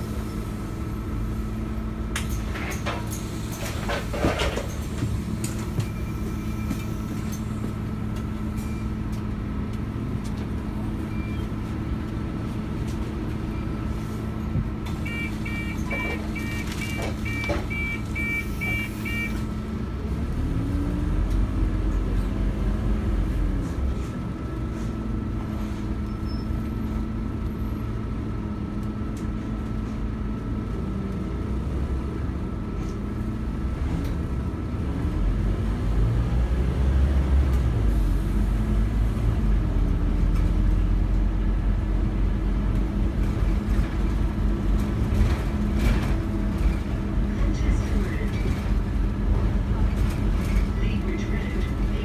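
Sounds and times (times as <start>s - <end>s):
bus diesel engine: 0.0s - 52.0s
cabin and road noise: 0.0s - 52.0s.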